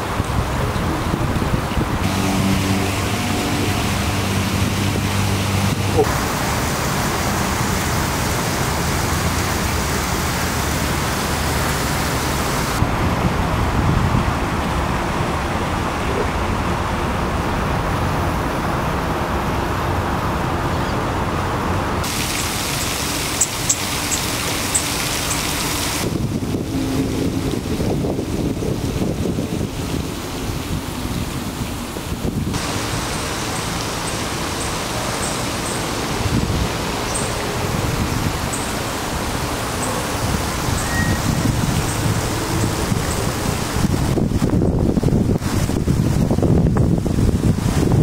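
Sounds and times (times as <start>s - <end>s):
traffic-like rumble: 0.0s - 48.0s
wind: 0.0s - 48.0s.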